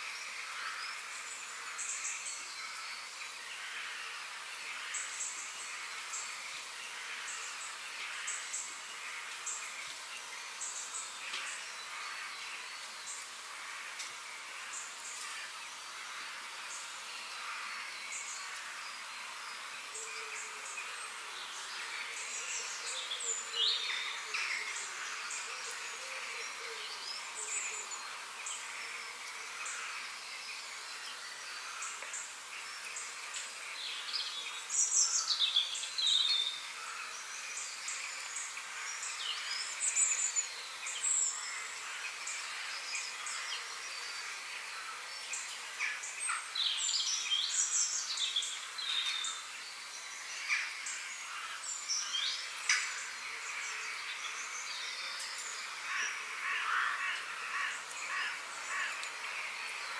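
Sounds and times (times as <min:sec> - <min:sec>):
birds chirping and trilling: 0:00.0 - 0:59.9
faint background hiss: 0:00.0 - 0:59.9.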